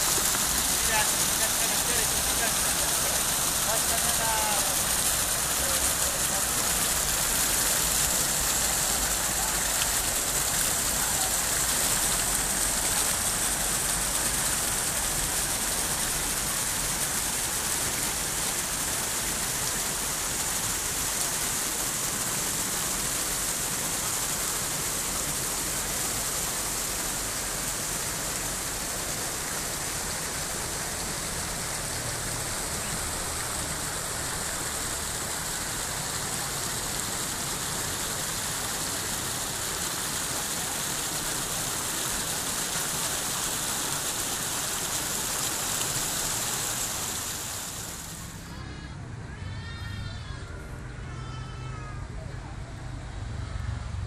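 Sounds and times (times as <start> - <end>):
water splashing down fountain wall: 0.0 - 50.4, 51.0 - 54.0.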